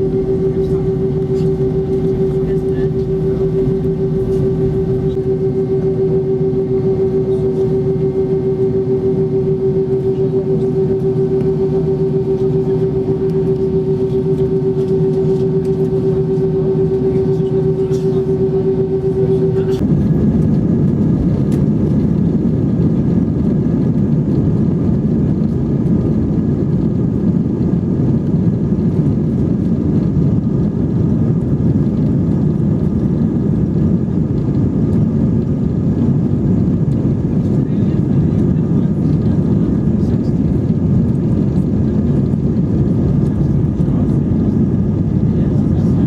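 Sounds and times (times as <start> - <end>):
jet engines heard from cabin: 0.0 - 46.0.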